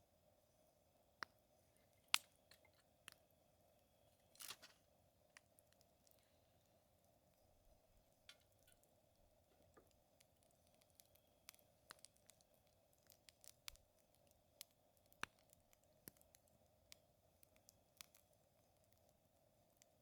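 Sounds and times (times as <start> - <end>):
faint steady hum: 0.0 - 20.0
wood fire crackling: 0.5 - 20.0.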